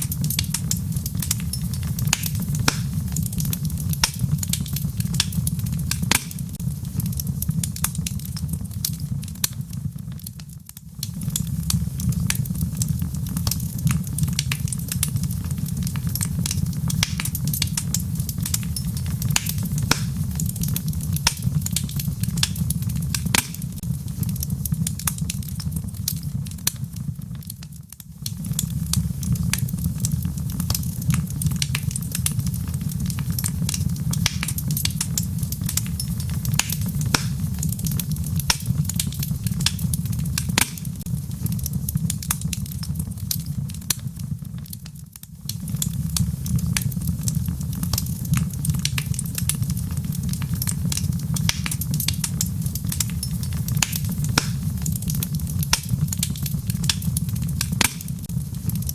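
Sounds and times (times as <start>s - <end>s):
low fire rumble: 0.0s - 58.9s
wood fire crackling and popping: 0.0s - 58.9s.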